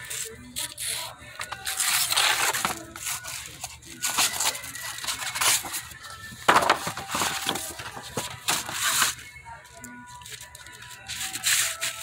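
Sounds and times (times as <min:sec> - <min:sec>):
paper cards rustling: 0:00.0 - 0:12.0.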